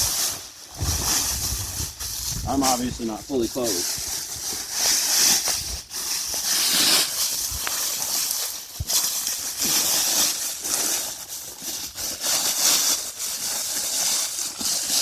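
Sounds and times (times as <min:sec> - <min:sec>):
crinkling plastic sheeting: 0:00.0 - 0:15.0.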